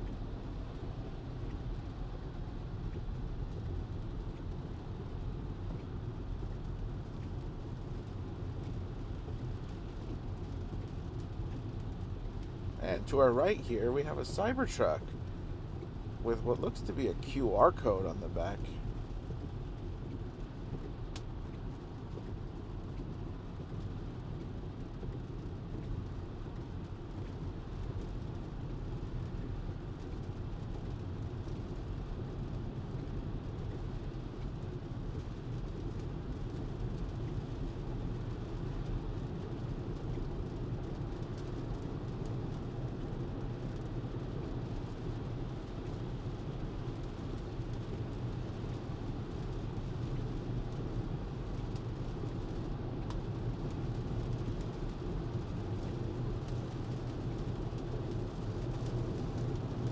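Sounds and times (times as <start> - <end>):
tyre and road noise on wet road: 0.4 - 59.9.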